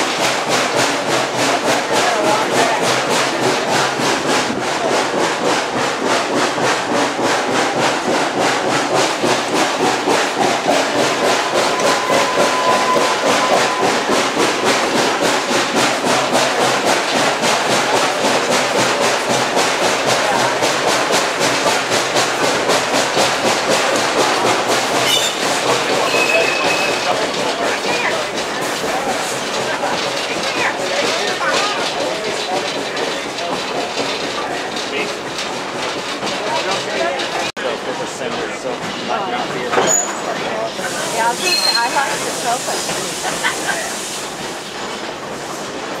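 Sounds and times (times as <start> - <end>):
steam locomotive exhaust chuffing: 0.0 - 46.0
train cars running noise: 0.0 - 46.0.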